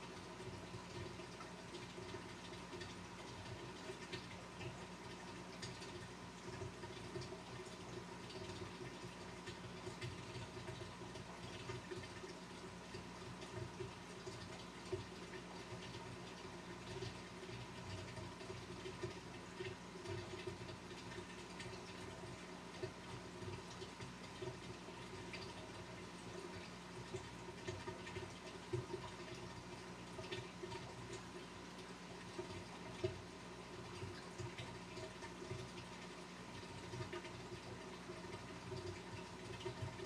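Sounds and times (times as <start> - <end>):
aquarium pump humming: 0.0 - 40.0
water trickling and bubbling: 0.0 - 40.0.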